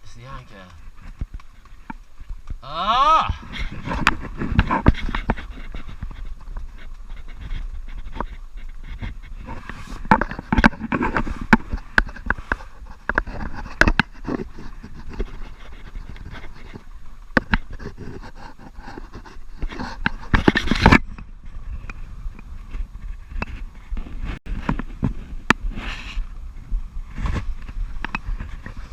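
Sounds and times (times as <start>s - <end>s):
knocks and scrapes: 0.0s - 2.6s, 3.2s - 28.9s.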